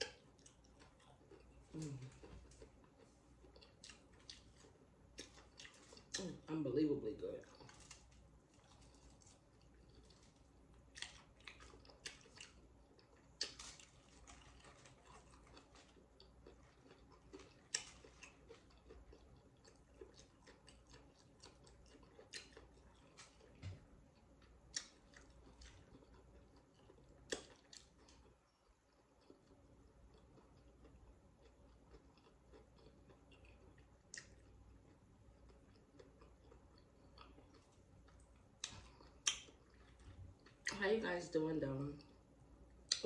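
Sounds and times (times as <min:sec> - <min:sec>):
chewing and crunching chips: 0:00.0 - 0:41.2, 0:41.8 - 0:43.0.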